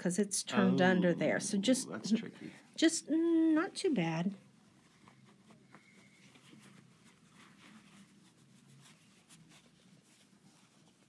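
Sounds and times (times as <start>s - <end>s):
cotton fabric rustling: 1.2s - 11.0s.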